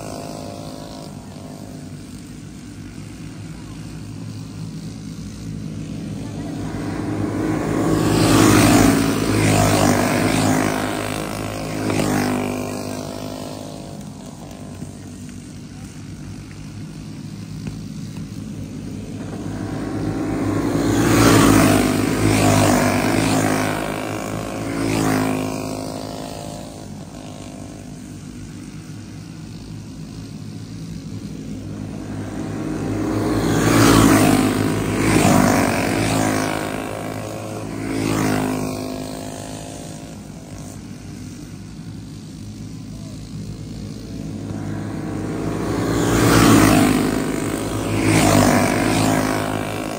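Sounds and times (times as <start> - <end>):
distant engine drone: 0.0 - 49.9
racing kart engines passing: 0.0 - 49.9.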